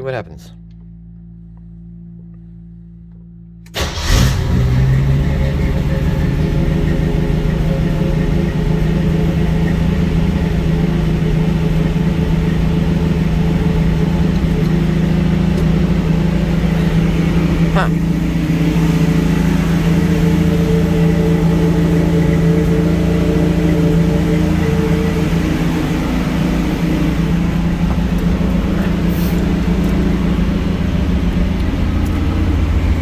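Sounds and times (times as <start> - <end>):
car engine idling: 0.0 - 33.0
starter motor cranking: 3.7 - 33.0.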